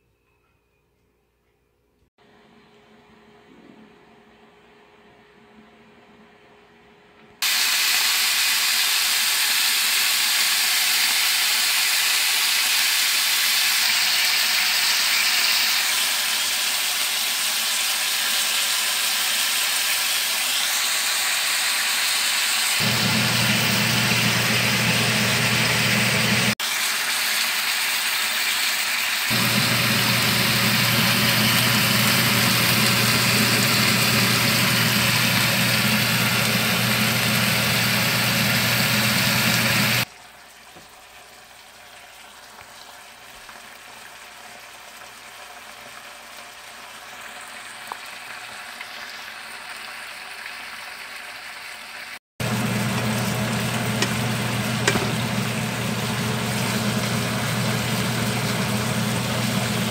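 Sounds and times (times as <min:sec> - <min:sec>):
chicken sizzling in a frying pan: 0:07.4 - 0:59.9.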